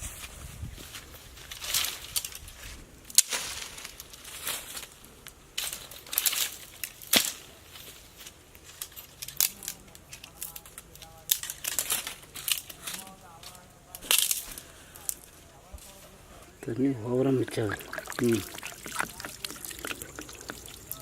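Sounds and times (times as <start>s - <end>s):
crinkling handling noise: 0.0s - 21.0s.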